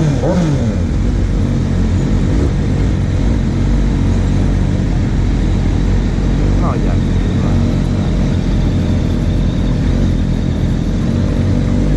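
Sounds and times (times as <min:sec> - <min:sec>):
motorcycle engine running: 0:00.0 - 0:11.9
road and wind noise: 0:00.0 - 0:11.9.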